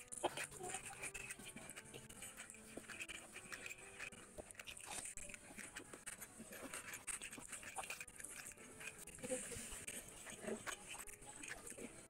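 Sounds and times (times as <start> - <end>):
wet chewing and lip-smacking: 0.0 - 12.0.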